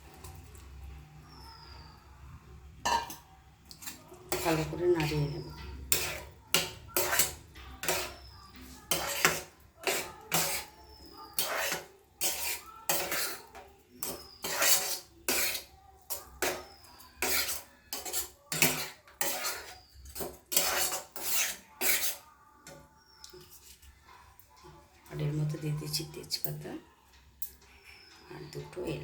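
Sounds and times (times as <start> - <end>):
spoon scraping a pan: 2.8 - 29.0.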